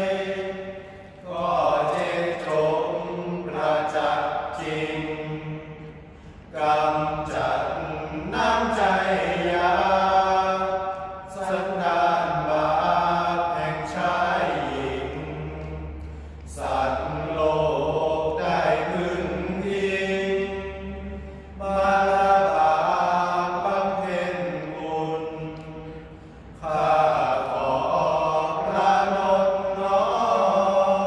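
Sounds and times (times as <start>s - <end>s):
men chanting together: 0.0s - 31.0s.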